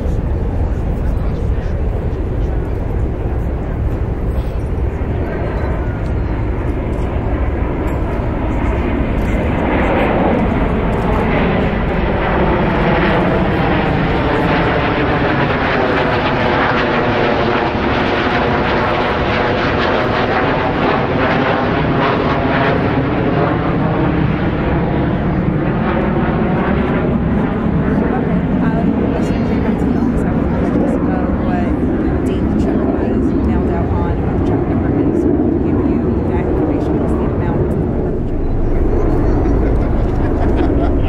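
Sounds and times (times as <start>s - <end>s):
jet roar flying past: 0.0s - 41.0s.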